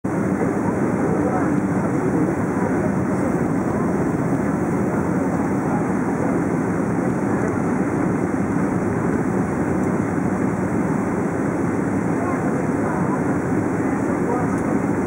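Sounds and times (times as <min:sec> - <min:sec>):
airliner cabin noise in flight: 0:00.1 - 0:15.0.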